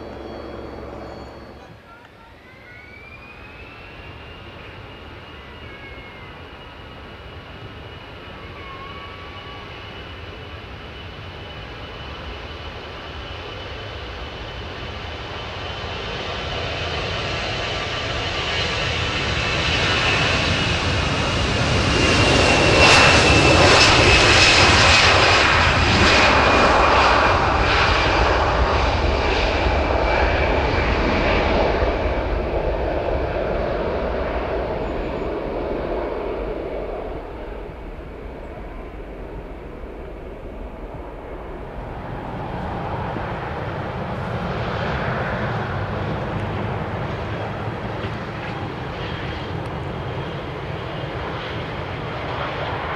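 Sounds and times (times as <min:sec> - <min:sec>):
high engine whine: 0:00.0 - 0:52.9
jet engines at takeoff power: 0:00.0 - 0:52.9.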